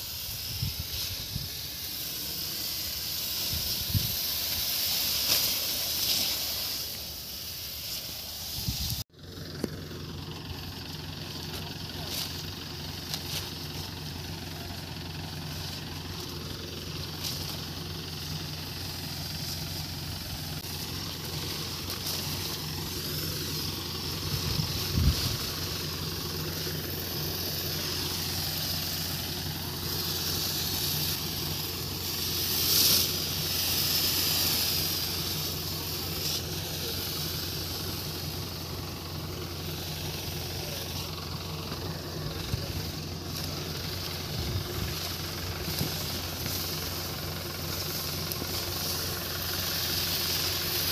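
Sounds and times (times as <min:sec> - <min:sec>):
sprayer hissing: 0:00.0 - 0:50.9
tractor engine running: 0:00.0 - 0:50.9.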